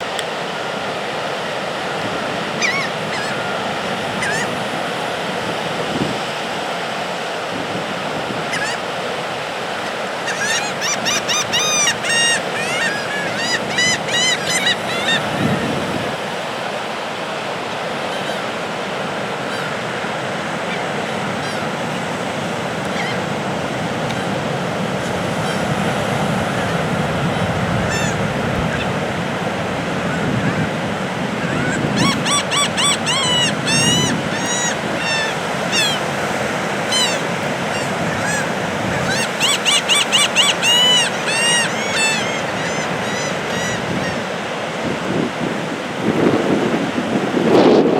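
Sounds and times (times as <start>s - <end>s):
strong wind: 0.0s - 10.3s, 11.0s - 47.9s
ocean surf rushing: 0.0s - 47.9s
seabirds calling: 0.1s - 47.4s.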